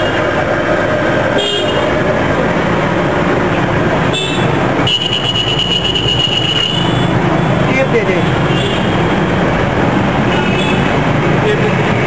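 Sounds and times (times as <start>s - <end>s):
loud street traffic: 0.0s - 12.0s.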